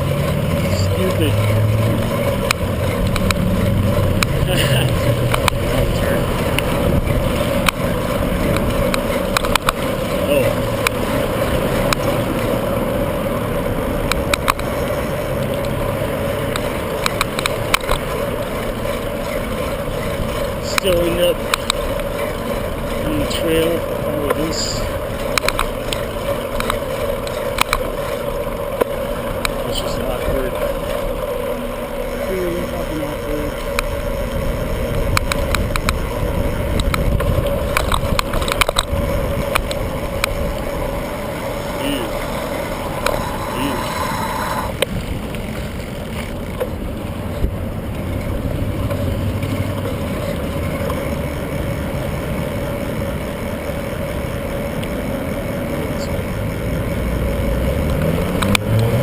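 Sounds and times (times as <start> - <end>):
bicycle clicks and rattles: 0.0 - 56.4
wind and bicycle tyres rumbling: 0.0 - 59.0.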